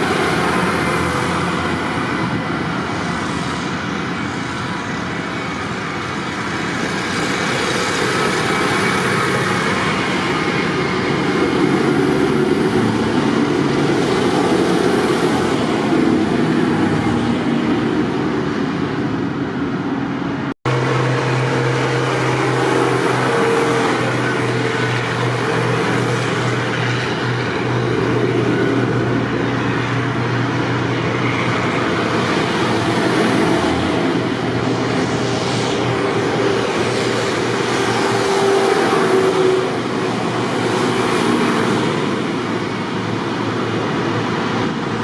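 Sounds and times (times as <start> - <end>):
tractor engines running: 0.0 - 45.0.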